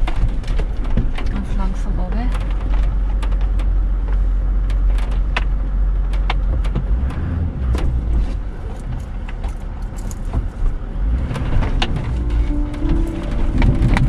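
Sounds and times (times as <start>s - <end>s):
low engine rumble: 0.0s - 14.0s
vehicle clicks and rattles: 0.0s - 14.0s.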